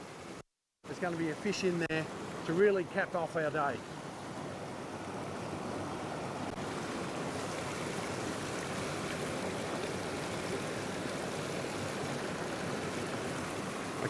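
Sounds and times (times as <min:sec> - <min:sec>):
stream rushing over log: 0:00.0 - 0:14.0.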